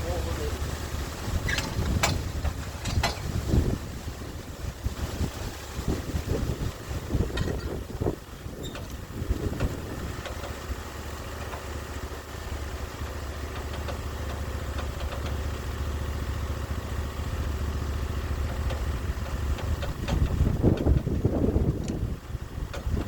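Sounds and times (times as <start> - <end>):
sawmill engine humming: 0.0 - 23.0.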